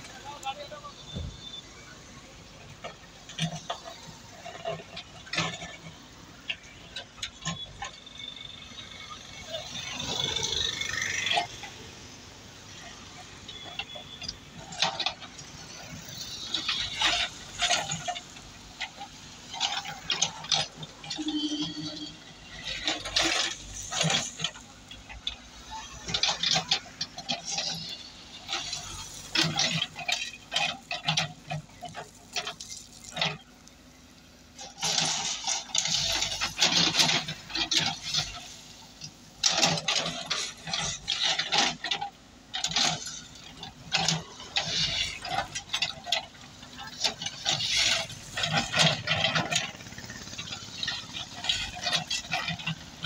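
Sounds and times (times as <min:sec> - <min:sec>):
diesel engine running: 0:00.0 - 0:53.0
gravel rattling and scraping: 0:00.0 - 0:53.0.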